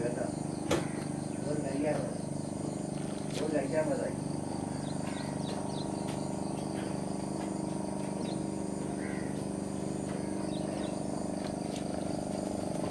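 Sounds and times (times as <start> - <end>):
birds chirping: 0.0 - 12.9
boat engine droning: 0.0 - 12.9.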